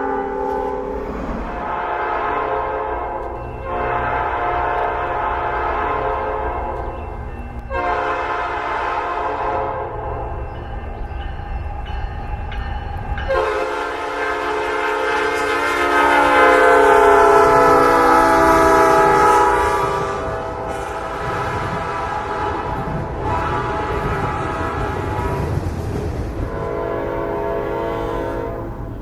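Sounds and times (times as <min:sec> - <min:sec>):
locomotive horn chord: 0:00.0 - 0:06.8, 0:07.7 - 0:10.0, 0:13.3 - 0:25.5, 0:26.4 - 0:29.0
moving train rumble: 0:00.0 - 0:29.0.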